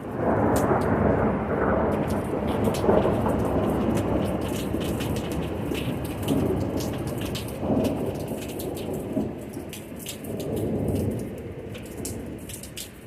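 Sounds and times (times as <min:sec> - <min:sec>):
rolling thunder: 0:00.0 - 0:12.5
rain falling: 0:00.0 - 0:13.0.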